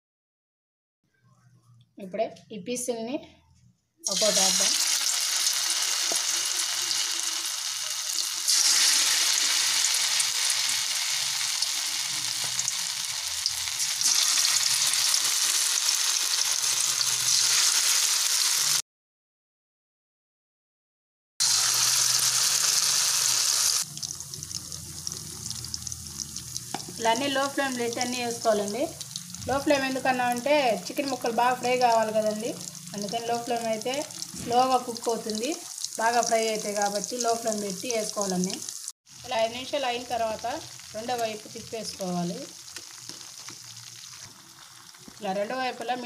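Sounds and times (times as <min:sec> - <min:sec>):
chicken deep-frying in oil: 0:04.0 - 0:18.8, 0:21.4 - 0:46.0.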